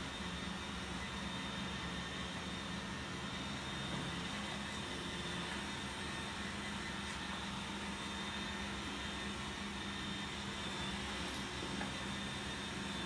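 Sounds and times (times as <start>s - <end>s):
electric fans whirring: 0.0s - 13.0s
fan motor hum: 0.0s - 13.0s.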